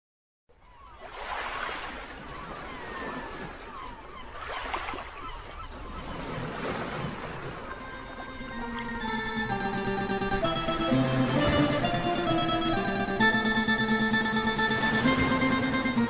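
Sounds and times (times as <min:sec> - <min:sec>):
wind: 0:00.5 - 0:16.0
sea waves washing in: 0:01.1 - 0:16.0.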